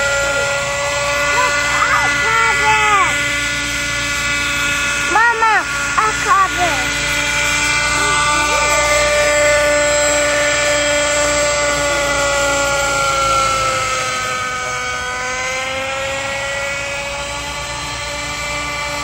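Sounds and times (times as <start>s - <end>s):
model helicopter high whine: 0.0s - 19.0s.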